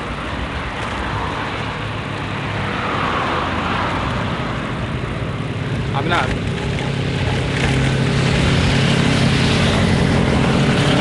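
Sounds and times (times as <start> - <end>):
road traffic noise: 0.0 - 11.0
motor vehicle passing: 1.0 - 11.0.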